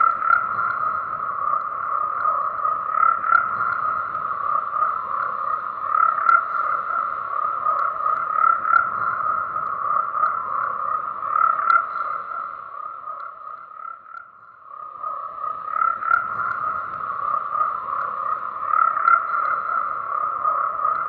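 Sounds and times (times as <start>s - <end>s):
frogs croaking: 0.0s - 21.0s.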